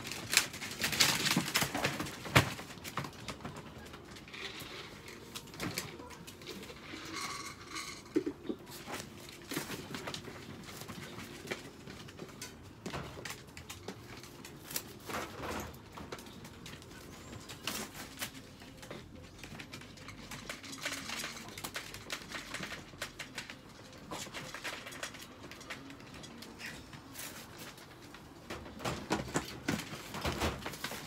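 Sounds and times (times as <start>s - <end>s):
wire crates clicking and rattling: 0.0s - 31.0s.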